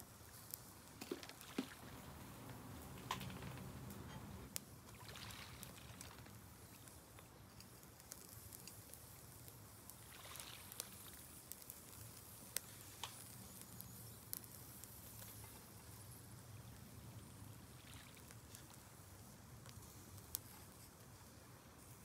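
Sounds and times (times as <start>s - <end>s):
charcoal and fat popping and crackling: 0.0s - 22.0s.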